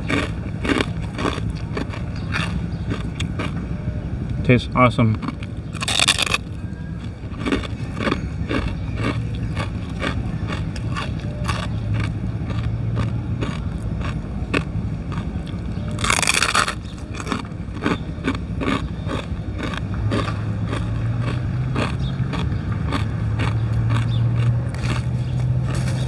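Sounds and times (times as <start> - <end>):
chewing crunchy food: 0.0 - 3.7, 5.1 - 26.0.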